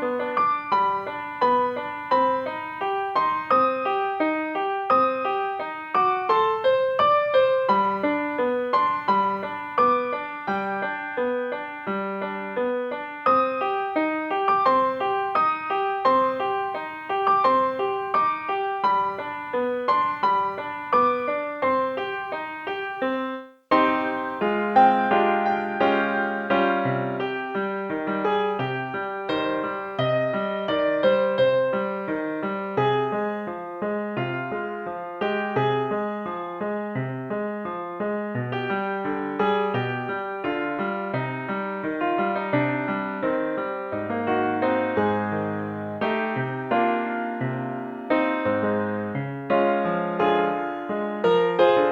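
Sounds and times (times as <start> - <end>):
piano broken chords: 0.0 - 51.9.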